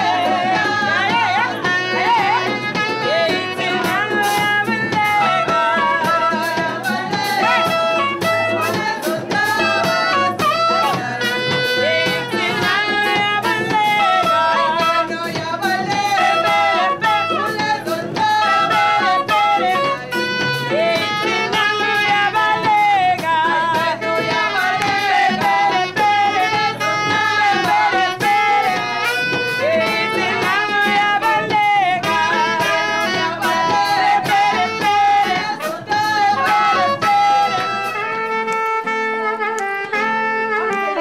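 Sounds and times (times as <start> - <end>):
steady drum beat: 0.0 - 38.5
band playing with singing: 0.0 - 41.0.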